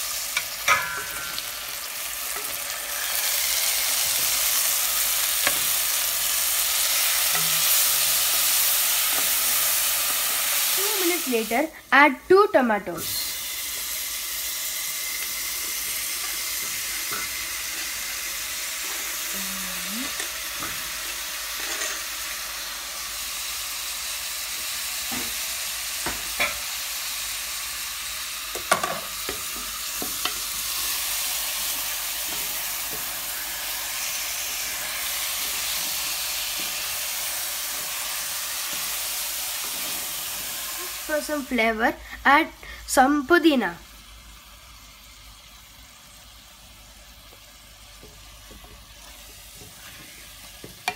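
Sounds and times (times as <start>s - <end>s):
food sizzling in oil: 0.0s - 50.9s.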